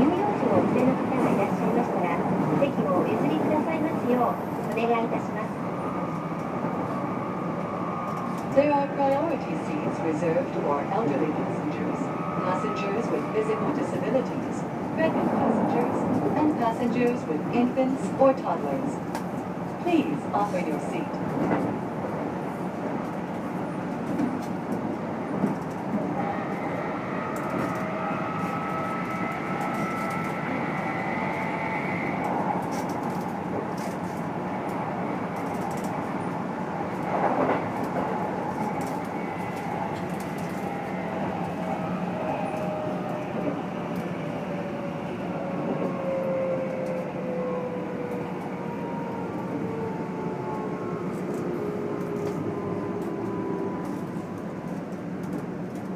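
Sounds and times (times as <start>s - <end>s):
train wheel and rail rumble: 0.0s - 55.9s.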